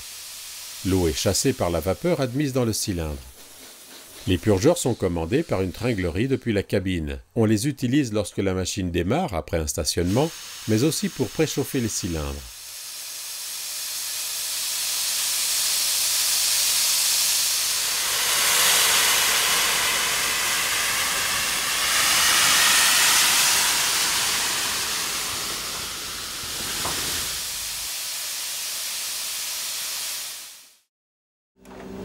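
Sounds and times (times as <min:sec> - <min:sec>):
loud hiss of steam: 0:00.0 - 0:06.5, 0:10.0 - 0:30.9.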